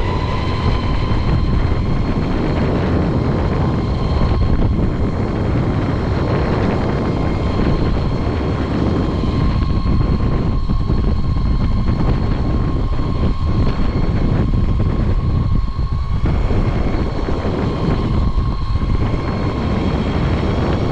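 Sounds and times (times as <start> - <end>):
electric motor whine: 0.0 - 20.9
wind buffeting microphone: 0.0 - 20.9.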